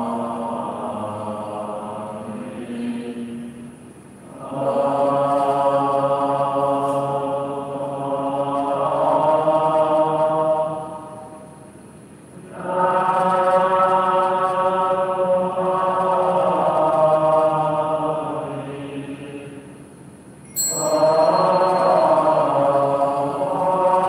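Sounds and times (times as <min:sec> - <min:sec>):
devotional chanting: 0:00.0 - 0:11.7, 0:12.3 - 0:19.9, 0:20.6 - 0:24.0.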